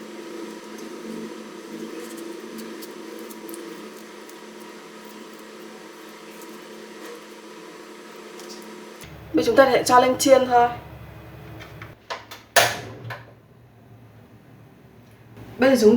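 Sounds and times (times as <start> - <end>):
machine hum: 0.0 - 15.9.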